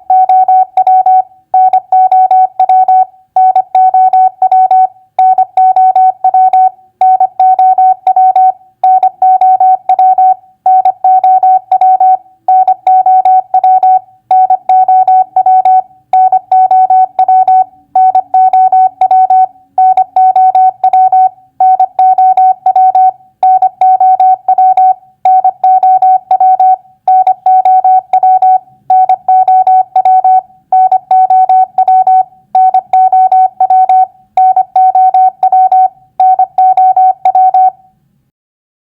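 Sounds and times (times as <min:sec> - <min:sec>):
morse code beeps: 0:00.0 - 0:37.9.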